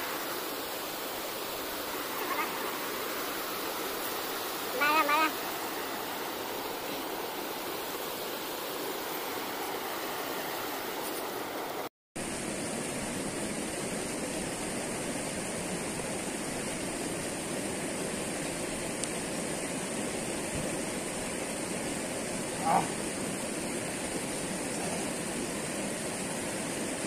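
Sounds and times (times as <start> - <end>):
river flowing over rocks: 0.0 - 27.0.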